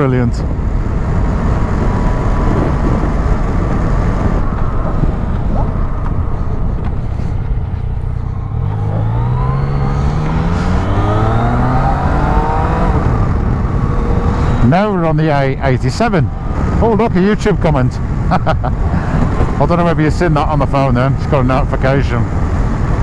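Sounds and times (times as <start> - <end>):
wind rush: 0.0 - 23.0
motorcycle engine: 0.5 - 19.6.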